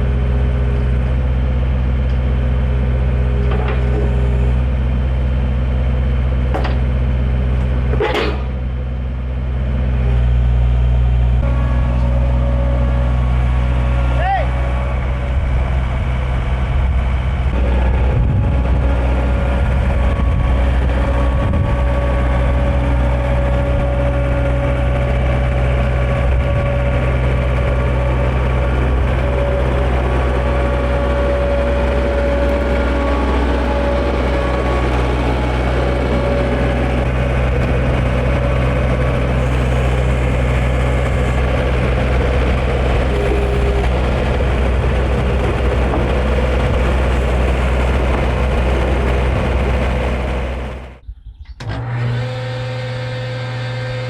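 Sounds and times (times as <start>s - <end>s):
heavy engine with low hum: 0.0s - 54.0s.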